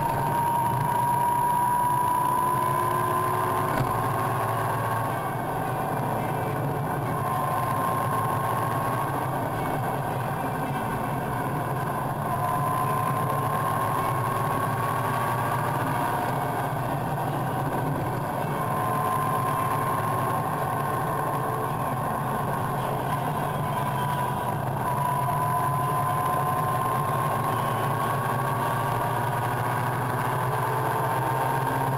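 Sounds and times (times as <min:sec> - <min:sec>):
faint rising whine: 0:00.0 - 0:31.9
motorcycle engine running: 0:00.0 - 0:31.9
wind and road noise: 0:00.0 - 0:31.9.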